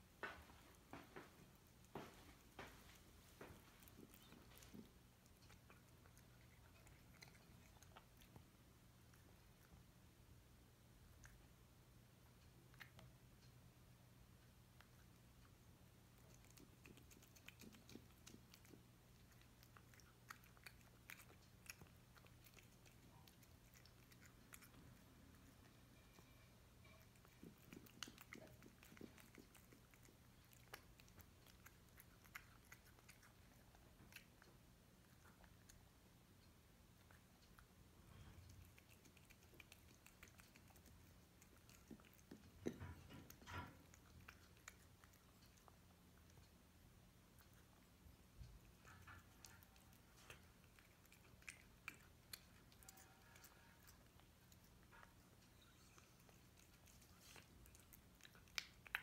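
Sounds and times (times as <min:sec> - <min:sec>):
cat chewing food: 0:00.0 - 0:59.0.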